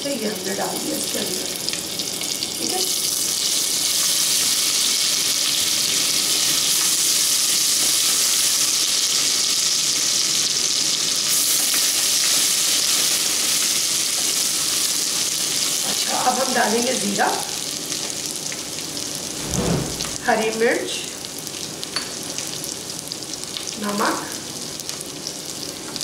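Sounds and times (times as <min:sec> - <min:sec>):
onions sizzling in hot oil: 0:00.0 - 0:19.3, 0:20.2 - 0:26.0.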